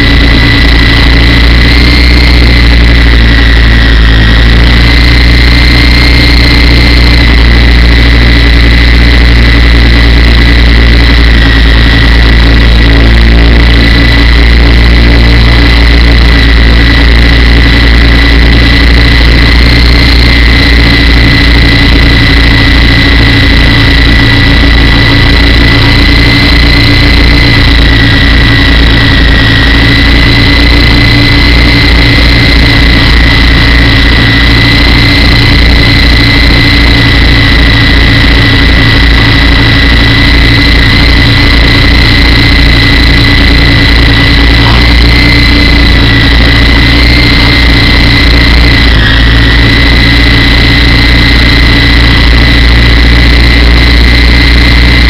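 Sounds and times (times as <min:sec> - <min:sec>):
fluttering rotor beat: 0:00.0 - 0:55.0
model helicopter motor whine: 0:00.0 - 0:55.0.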